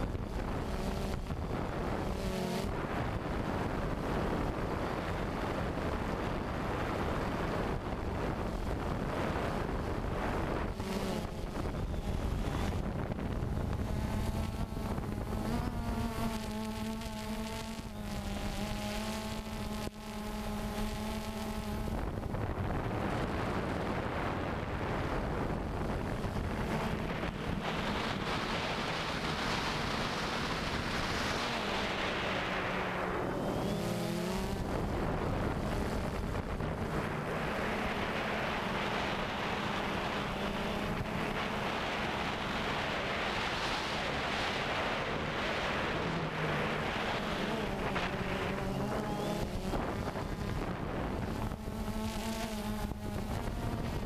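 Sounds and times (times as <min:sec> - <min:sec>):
drone propellers buzzing: 0:00.0 - 0:54.0
wind over microphone: 0:00.0 - 0:54.0.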